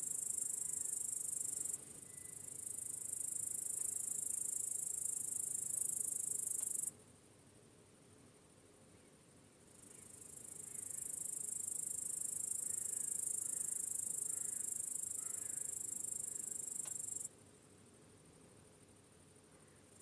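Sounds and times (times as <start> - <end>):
crickets chirping: 0.0 - 7.4, 8.4 - 20.0.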